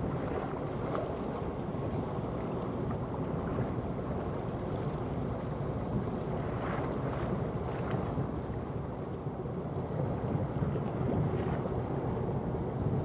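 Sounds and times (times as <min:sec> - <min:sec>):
sea waves: 0:00.0 - 0:13.0
wind buffeting the microphone: 0:00.0 - 0:13.0.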